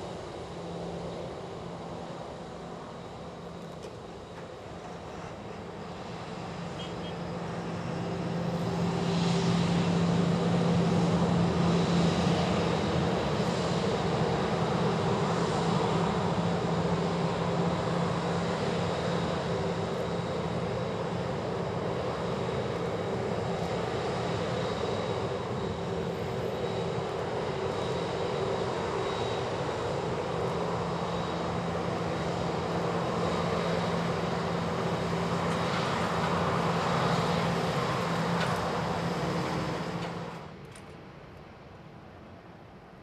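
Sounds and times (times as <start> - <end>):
jet engines at taxi power: 0.0 - 43.0.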